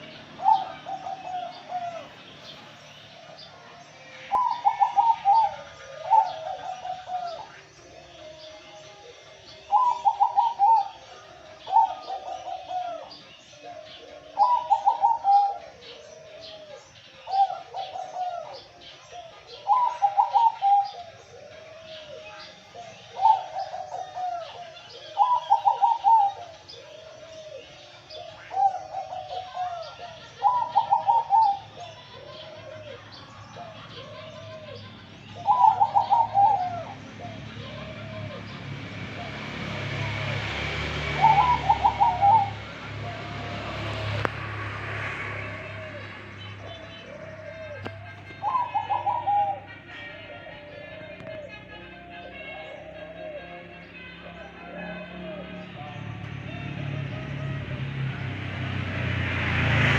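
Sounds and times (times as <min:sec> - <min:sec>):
dove cooing: 0:00.0 - 0:59.9
small birds chirping: 0:00.0 - 0:59.9.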